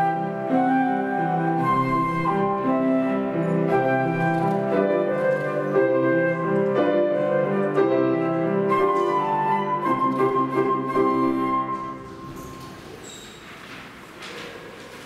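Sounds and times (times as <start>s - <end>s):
flute: 0.0s - 12.7s
piano: 0.0s - 15.0s.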